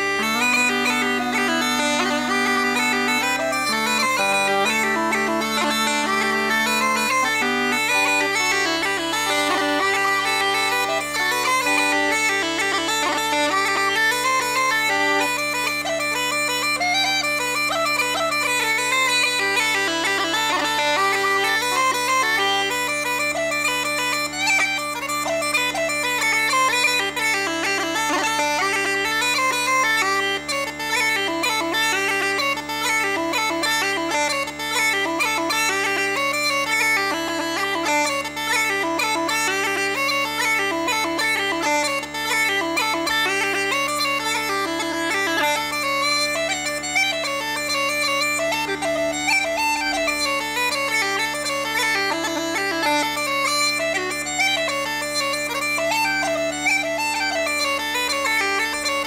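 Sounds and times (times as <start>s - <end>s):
bagpipe chanter melody: 0.0s - 59.0s
bagpipe drones: 0.0s - 59.0s.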